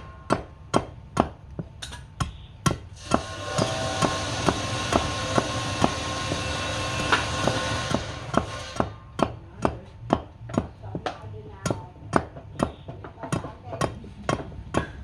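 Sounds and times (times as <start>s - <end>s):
machine-like hum: 0.0s - 13.1s.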